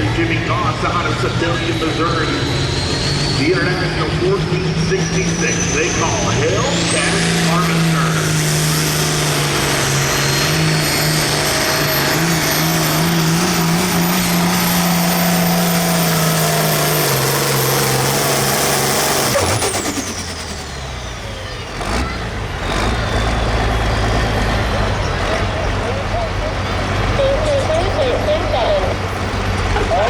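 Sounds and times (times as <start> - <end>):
diesel tractor engine running: 0.0 - 30.0.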